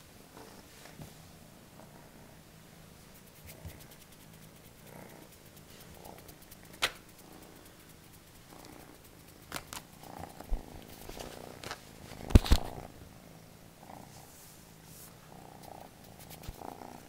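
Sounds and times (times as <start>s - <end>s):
kitten purring: 0.2s - 17.0s.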